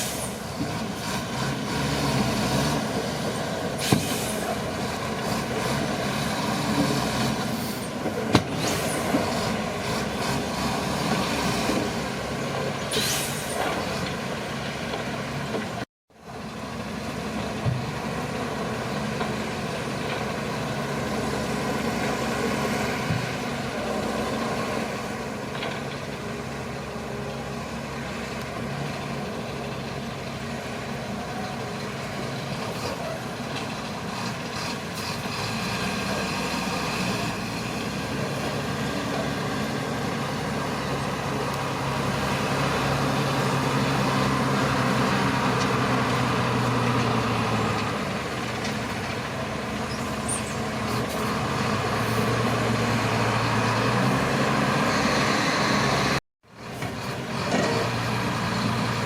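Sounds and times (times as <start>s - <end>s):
bulldozer diesel engine running: 0.0s - 12.9s, 13.5s - 59.0s.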